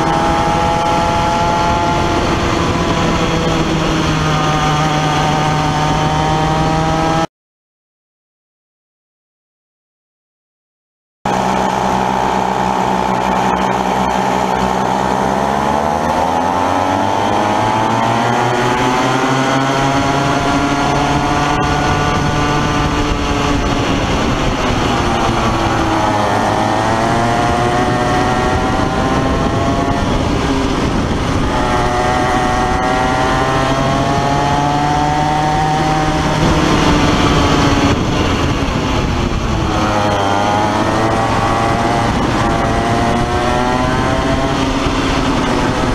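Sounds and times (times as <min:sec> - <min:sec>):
two-stroke kart engine racing: 0:00.0 - 0:07.3, 0:11.3 - 0:45.9.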